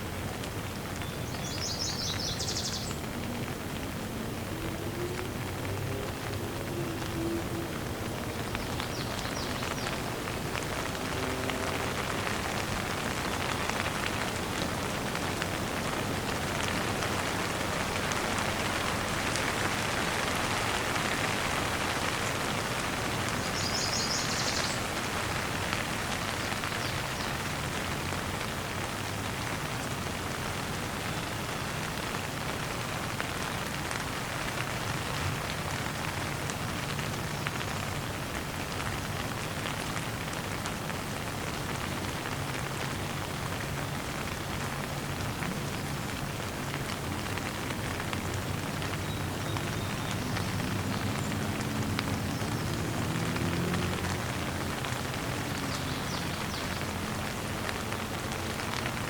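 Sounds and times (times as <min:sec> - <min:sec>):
rain pattering on ground: 0:00.0 - 0:59.0.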